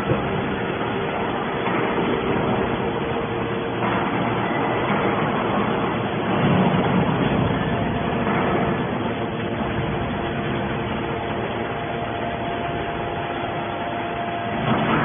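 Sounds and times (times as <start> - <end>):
continuous rushing noise: 0.0 - 15.0
hydraulic baler machine hum: 0.0 - 15.0.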